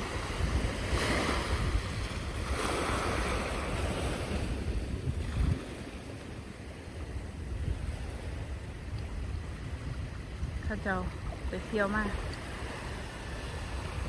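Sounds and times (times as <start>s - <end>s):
sea waves washing in: 0.0s - 14.0s
wind rumbling on microphone: 0.0s - 14.0s.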